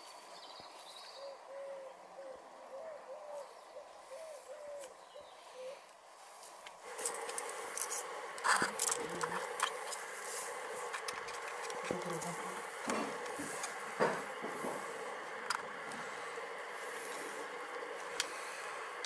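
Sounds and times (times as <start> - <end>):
steady buzzing hum: 0.0 - 19.0.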